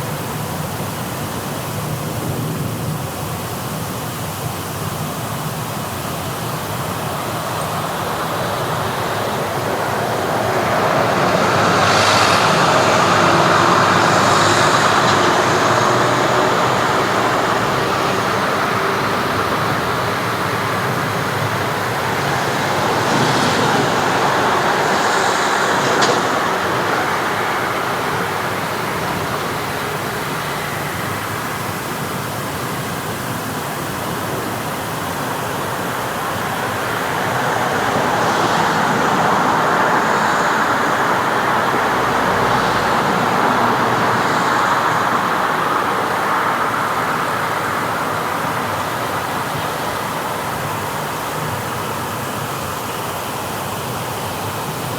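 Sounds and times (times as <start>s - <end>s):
road noise from passing cars: 0.0s - 54.9s.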